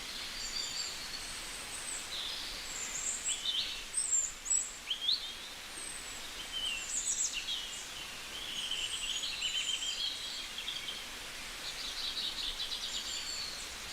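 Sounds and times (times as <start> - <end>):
outdoor hiss: 0.0 - 13.9
songbirds singing: 0.0 - 13.9.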